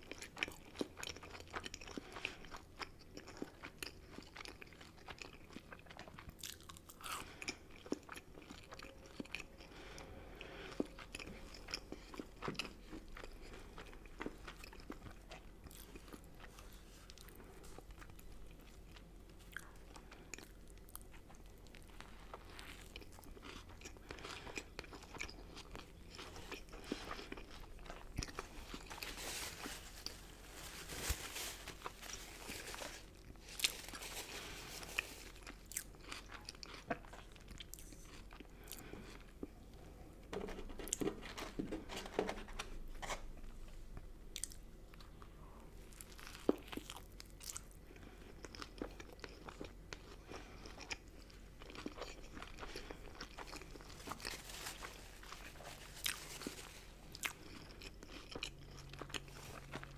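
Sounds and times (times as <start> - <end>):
person chewing and crunching food: 0.0 - 39.7, 44.3 - 59.9.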